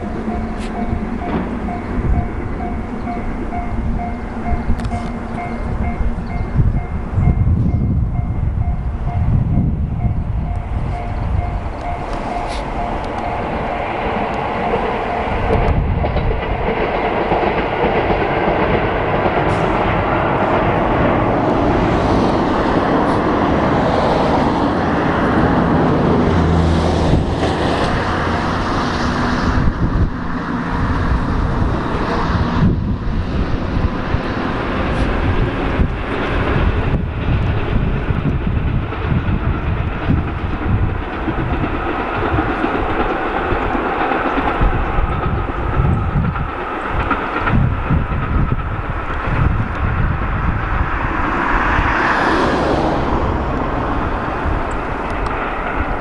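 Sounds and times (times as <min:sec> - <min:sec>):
diesel train running on track: 0:00.0 - 0:56.0.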